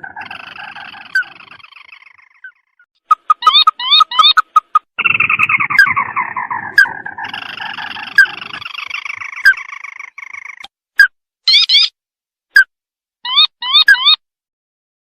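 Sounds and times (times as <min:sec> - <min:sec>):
bird calls and trills: 0:00.0 - 0:10.7, 0:11.5 - 0:12.0, 0:13.3 - 0:14.2.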